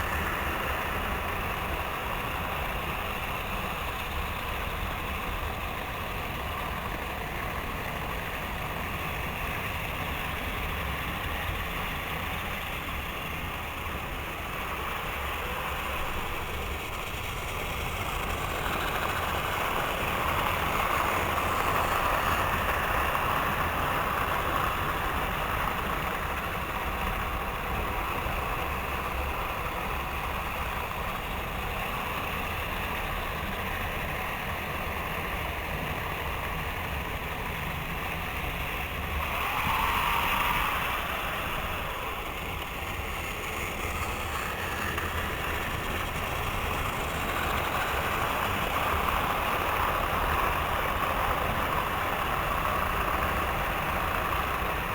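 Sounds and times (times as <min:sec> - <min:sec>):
model trains running on track: 0:00.0 - 0:54.9.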